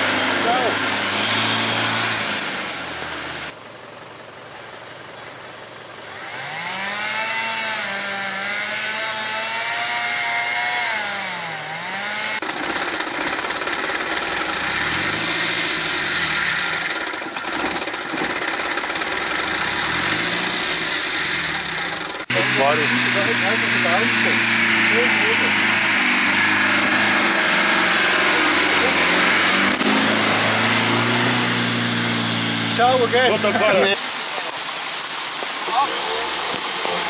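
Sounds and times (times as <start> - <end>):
engine revving: 0.0 - 3.6, 5.9 - 34.0
off-road engine running: 0.0 - 11.1, 11.8 - 37.0.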